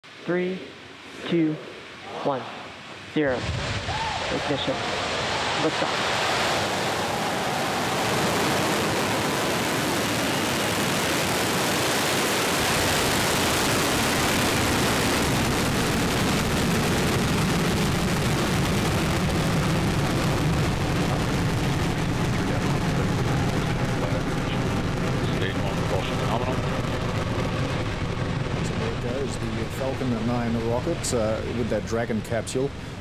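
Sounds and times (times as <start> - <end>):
rocket engines roaring: 0.1 - 33.0.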